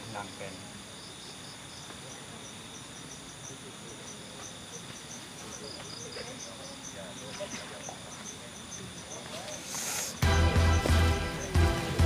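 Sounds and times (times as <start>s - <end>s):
high-pitched insect trill: 0.0s - 11.7s
crickets chirping: 0.0s - 12.0s.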